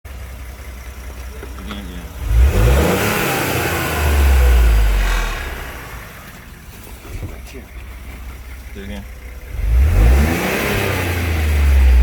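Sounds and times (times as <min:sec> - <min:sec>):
car engine revving: 0:00.3 - 0:12.0.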